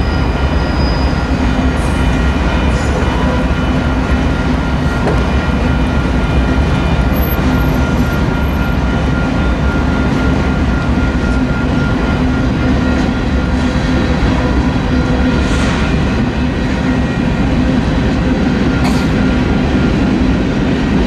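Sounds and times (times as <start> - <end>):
wheels rumbling and rattling on rail: 0.0 - 21.0.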